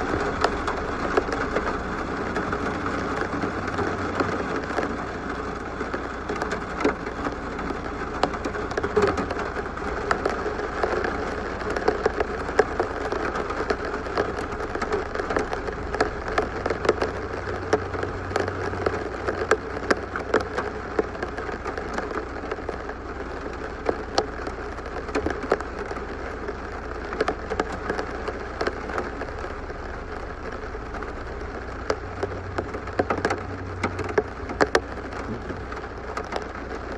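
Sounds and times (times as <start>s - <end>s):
steady rain falling: 0.0s - 36.9s
drops ticking on a hard surface: 5.8s - 36.9s.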